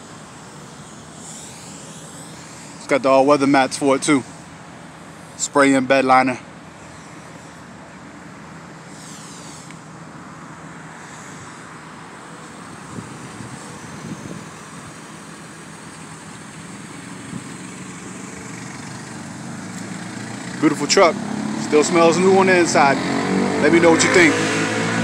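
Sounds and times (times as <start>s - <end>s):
road traffic: 0.0s - 25.0s
vehicle engine hum: 0.0s - 25.0s.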